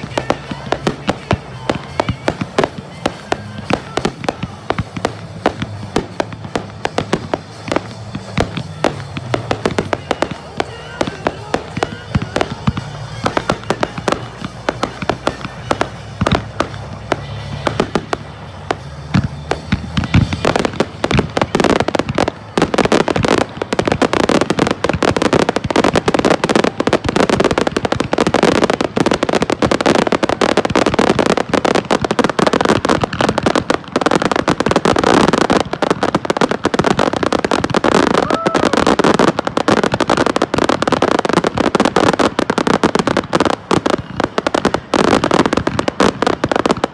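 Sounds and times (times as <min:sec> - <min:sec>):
fireworks bangs and crackle: 0:00.0 - 0:46.9.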